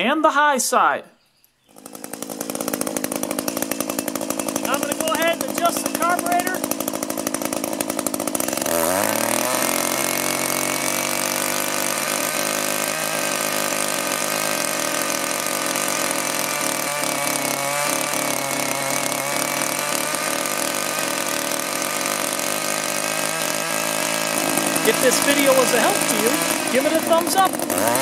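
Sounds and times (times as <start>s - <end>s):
string trimmer engine revving: 1.7s - 28.0s.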